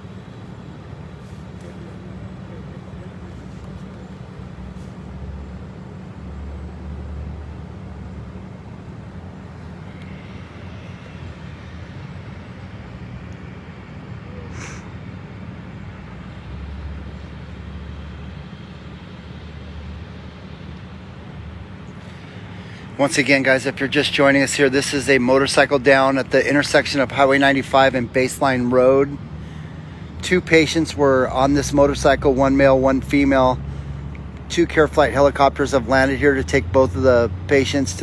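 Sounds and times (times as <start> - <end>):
engines idling: 0.0 - 38.0.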